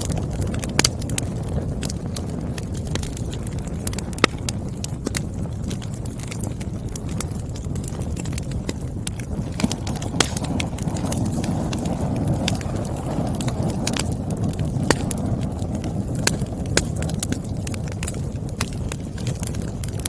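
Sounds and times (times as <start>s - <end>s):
firewood popping: 0.0s - 20.0s
wood fire crackling: 0.0s - 20.0s.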